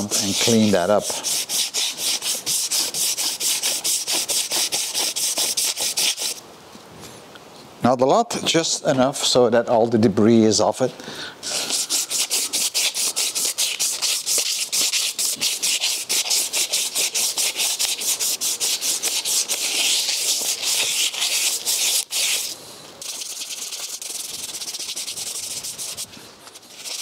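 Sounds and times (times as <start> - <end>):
sandpaper rubbing on metal: 0.0 - 6.4, 11.4 - 27.0.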